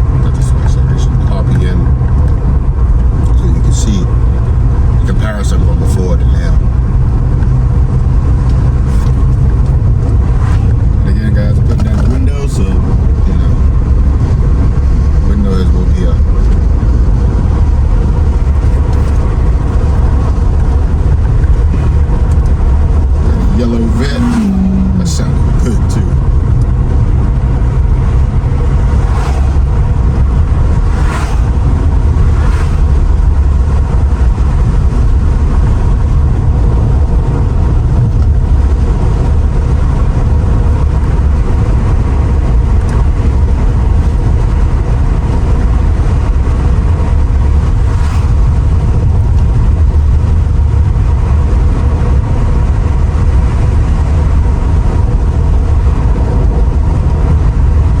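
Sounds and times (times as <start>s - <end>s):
car interior engine rumble: 0.0s - 58.0s.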